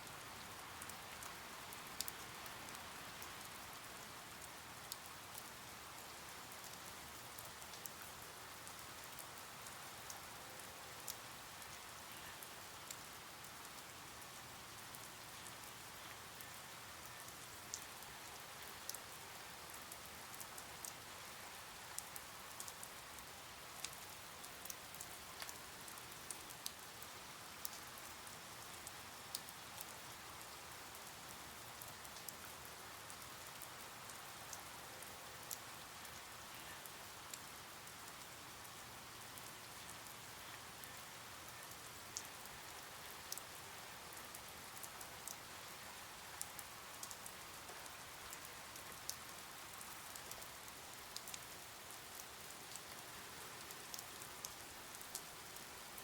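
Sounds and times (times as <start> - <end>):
raindrops ticking on surface: 0.0 - 56.0
steady rain hiss: 0.0 - 56.0.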